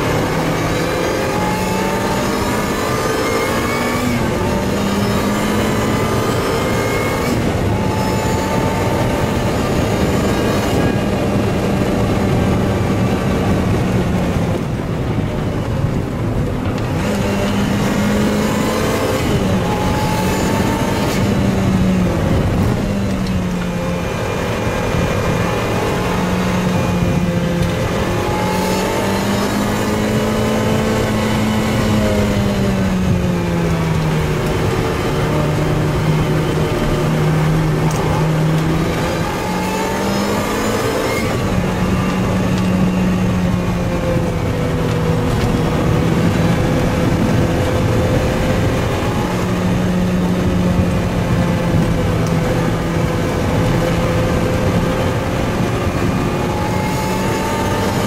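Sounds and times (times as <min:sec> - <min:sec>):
car engine under hard driving: 0:00.0 - 0:58.0.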